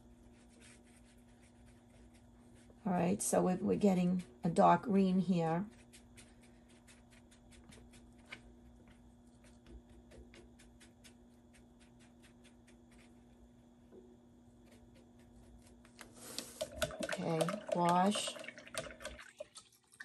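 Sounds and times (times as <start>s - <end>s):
paintbrush ticking and scraping: 0.0s - 13.7s, 14.5s - 18.3s
steady low hum: 0.0s - 18.6s.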